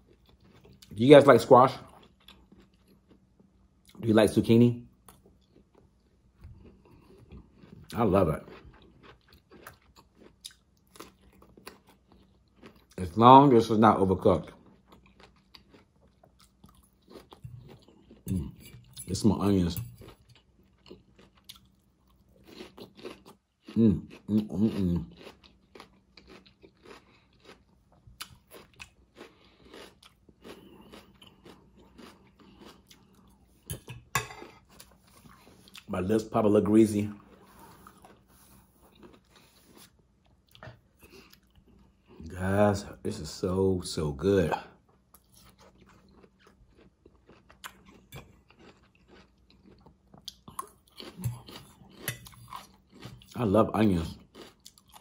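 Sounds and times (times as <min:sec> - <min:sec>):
mouth chewing vegetables: 0:00.0 - 0:04.1, 0:04.8 - 0:55.0.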